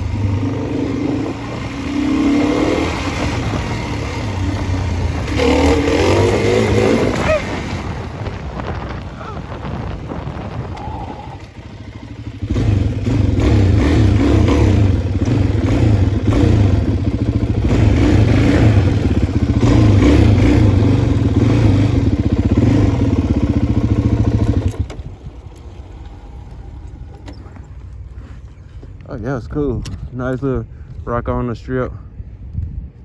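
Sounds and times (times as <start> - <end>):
dirt bike engine revving: 0.0 - 27.8.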